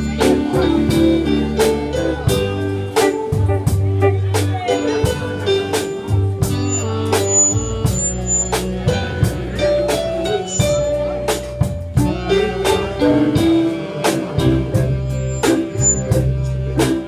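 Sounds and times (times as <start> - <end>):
bass line: 0.0 - 17.0
drum beats: 0.0 - 17.0
live band playing: 0.0 - 17.0.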